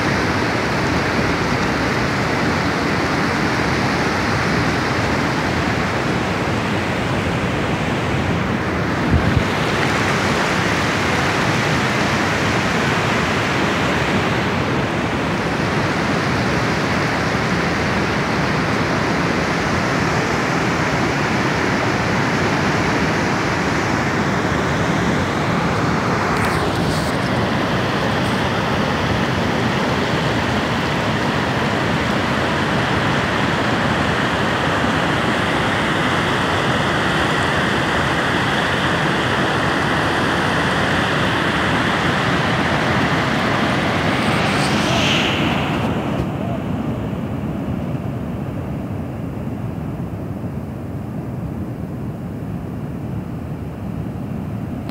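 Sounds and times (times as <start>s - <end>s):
river rushing over boulders: 0.0s - 47.1s.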